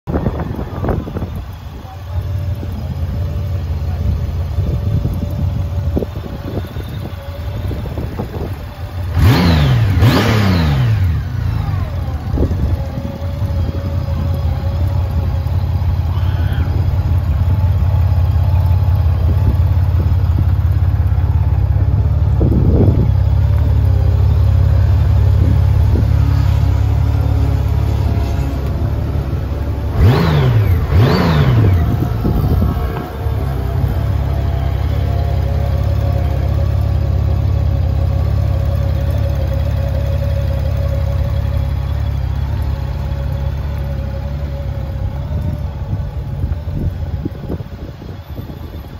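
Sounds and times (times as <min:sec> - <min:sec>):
engine throttle blips: 0:00.1 - 0:48.9
motorcycle engine idling: 0:00.1 - 0:48.9.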